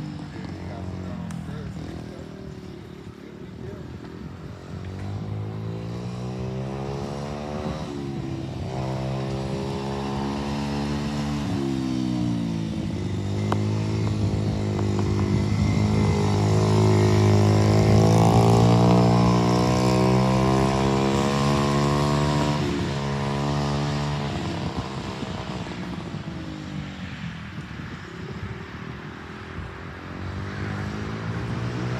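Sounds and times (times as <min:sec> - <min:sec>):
atv engine shifting gears: 0:00.0 - 0:27.6.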